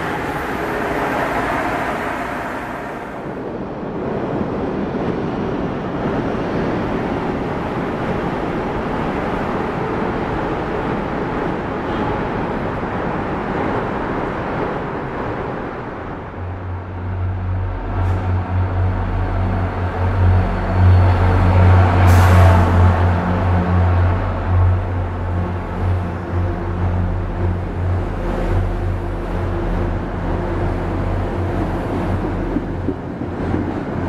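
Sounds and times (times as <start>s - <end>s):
train moving past platform: 0.0s - 34.0s.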